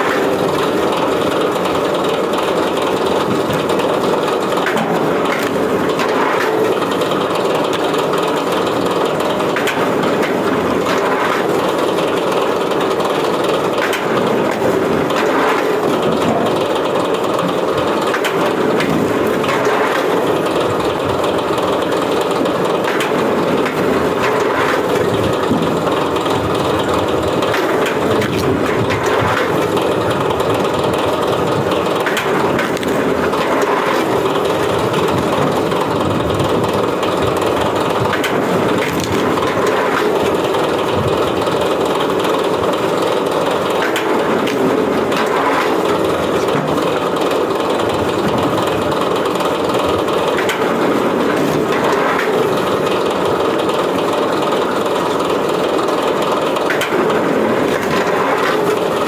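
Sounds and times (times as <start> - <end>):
log splitter running: 0.0 - 59.0.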